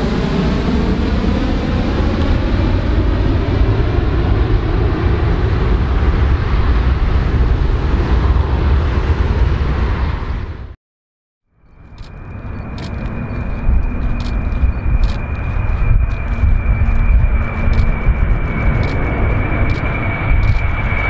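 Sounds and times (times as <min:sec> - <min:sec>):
jet airliner roaring overhead: 0:00.0 - 0:10.8, 0:11.6 - 0:21.0.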